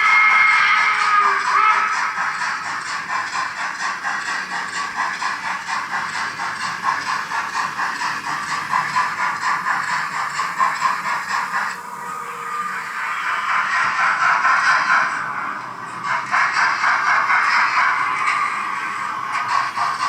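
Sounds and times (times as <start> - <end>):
model steam locomotive chuffing: 0.0 - 20.0.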